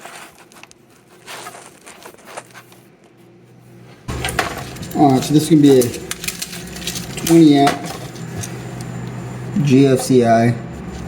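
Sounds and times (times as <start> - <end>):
low rumble of handling: 0.0 - 11.0.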